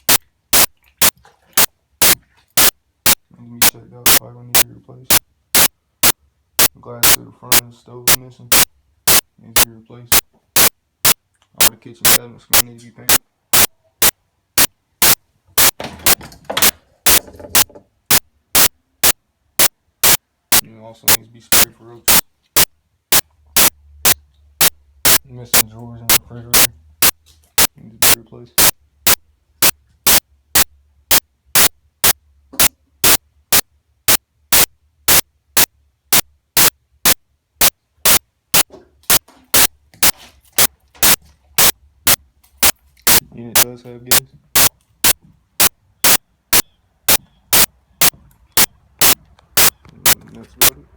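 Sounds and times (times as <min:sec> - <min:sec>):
loud sharp clicks: 0:00.0 - 0:03.2, 0:05.1 - 0:09.3, 0:10.1 - 0:20.7, 0:21.5 - 0:25.3, 0:26.1 - 0:50.8
short bursts of static noise: 0:00.0 - 0:50.9.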